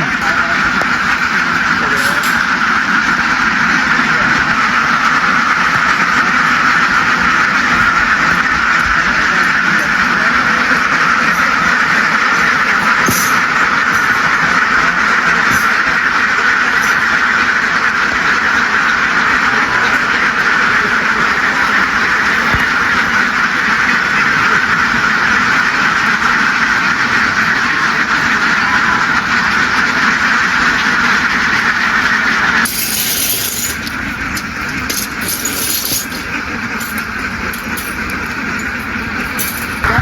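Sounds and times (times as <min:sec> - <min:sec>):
flock of ducks quacking: 0:00.0 - 0:40.0.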